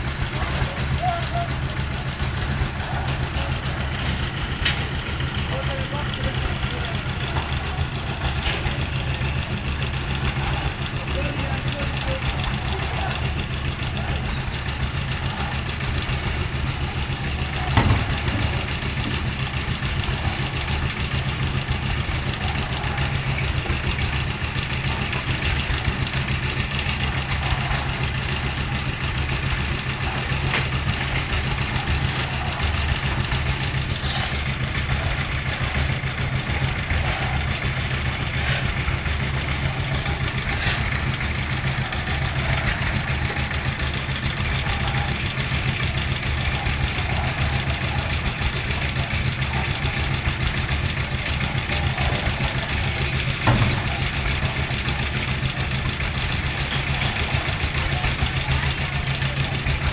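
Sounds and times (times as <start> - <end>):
concrete mixer engine running: 0.0 - 59.9.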